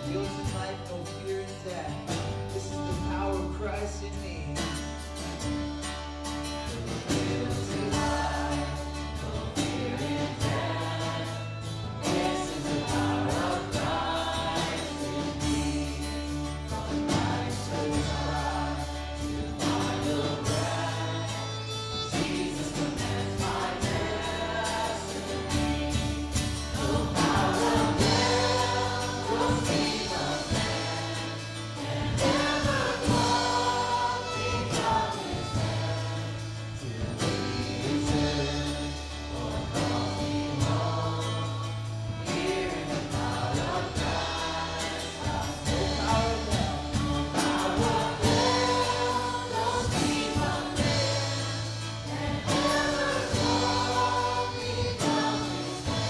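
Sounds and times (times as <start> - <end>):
choir singing gospel song: 0.0 - 1.2, 6.6 - 56.0
instrumental backing: 0.0 - 56.0.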